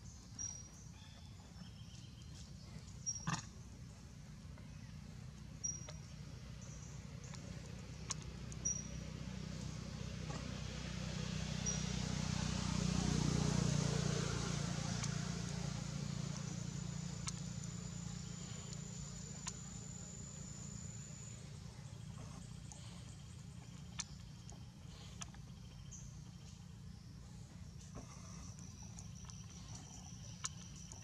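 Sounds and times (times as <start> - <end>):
distant vehicle engine hum: 0.0 - 31.0.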